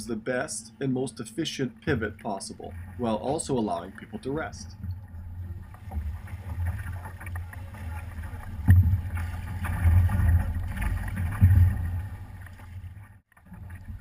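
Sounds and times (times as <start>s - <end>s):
paddles splashing in water: 1.9s - 14.0s.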